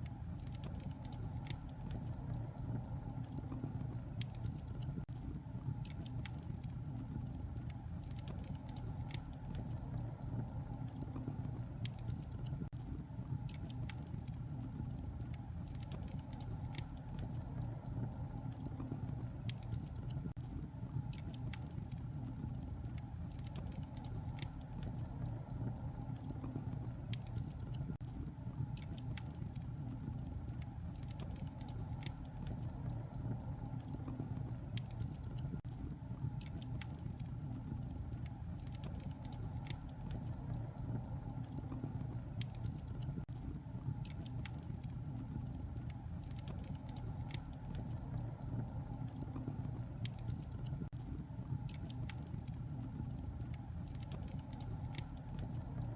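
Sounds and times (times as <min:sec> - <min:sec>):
burning logs crackling: 0:00.0 - 0:55.9
fire flames rumbling: 0:00.0 - 0:55.9.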